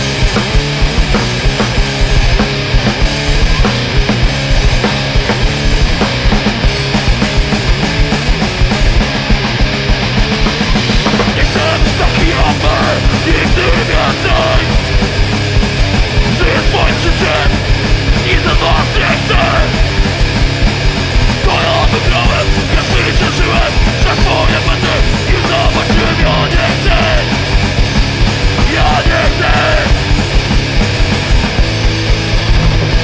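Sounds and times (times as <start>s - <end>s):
hardcore punk band playing: 0.0s - 33.0s.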